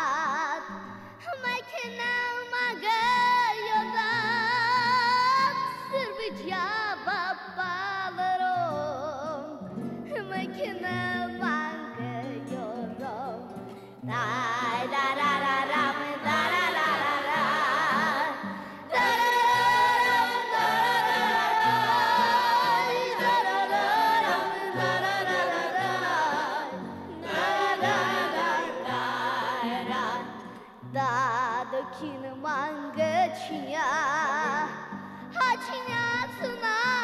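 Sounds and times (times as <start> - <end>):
song with sung voice: 0.0 - 37.0.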